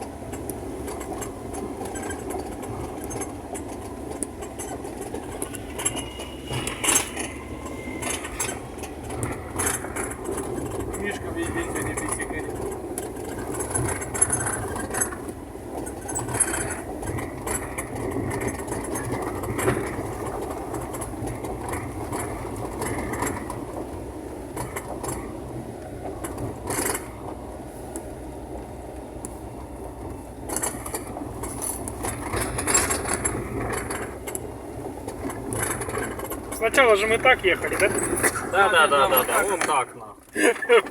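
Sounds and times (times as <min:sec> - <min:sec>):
knocks and rattles from bumps: 0:00.0 - 0:27.5, 0:29.6 - 0:40.9
car engine and tyres rumbling: 0:00.0 - 0:40.9.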